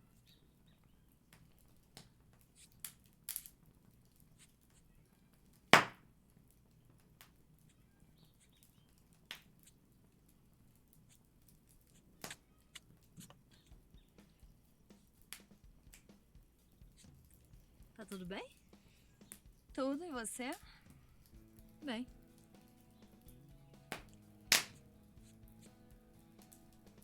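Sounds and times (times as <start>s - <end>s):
fire popping: 0.0s - 27.0s.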